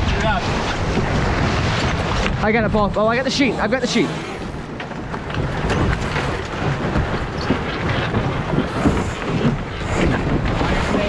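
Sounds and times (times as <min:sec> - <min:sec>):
water along a boat hull: 0:00.0 - 0:11.0
wind buffeting microphone: 0:00.0 - 0:11.0.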